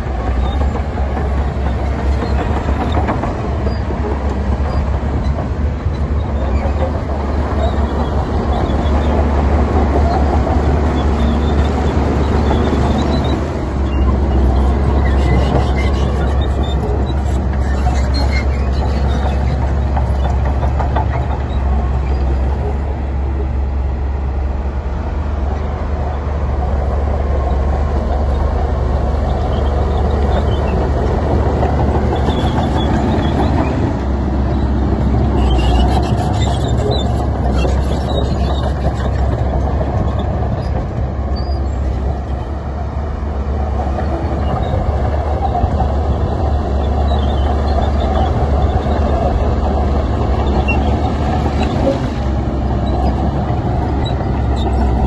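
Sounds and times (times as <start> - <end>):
heavy machinery engine rumble: 0.0 - 55.0.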